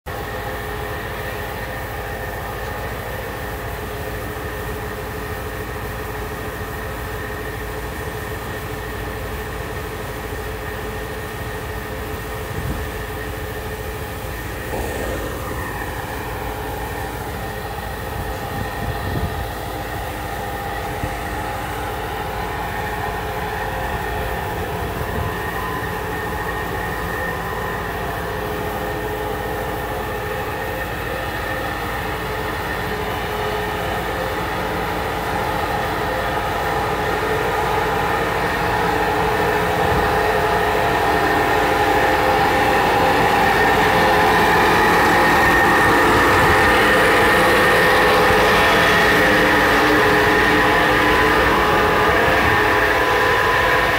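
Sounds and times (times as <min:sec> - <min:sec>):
blower droning and whining: 0:00.0 - 0:53.9.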